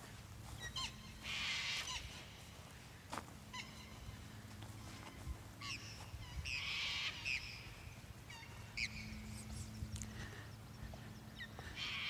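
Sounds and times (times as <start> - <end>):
low steady hum: 0.0 - 12.0
birds squawking: 0.5 - 2.6, 3.5 - 12.0.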